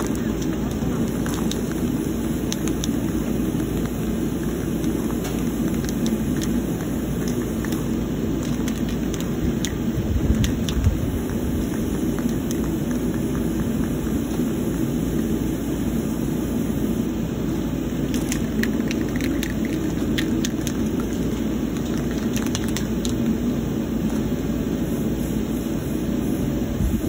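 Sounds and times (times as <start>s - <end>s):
rushing rumbling noise: 0.0s - 25.0s.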